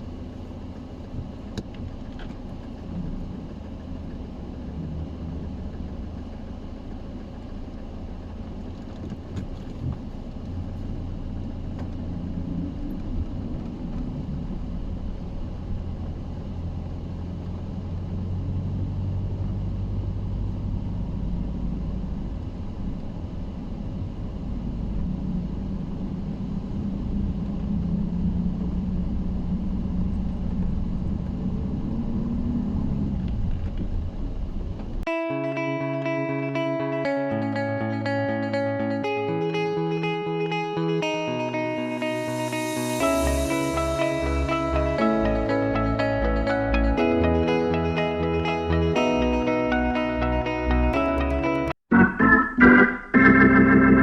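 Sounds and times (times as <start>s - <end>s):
vehicle engine rumbling: 0.0s - 35.1s, 41.5s - 54.0s.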